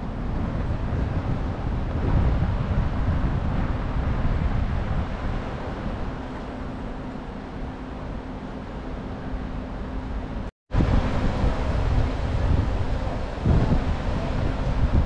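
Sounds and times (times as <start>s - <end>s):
wind buffeting microphone: 0.0s - 7.8s, 10.7s - 15.0s
low city rumble: 0.0s - 15.0s
steady low hum: 0.0s - 15.0s.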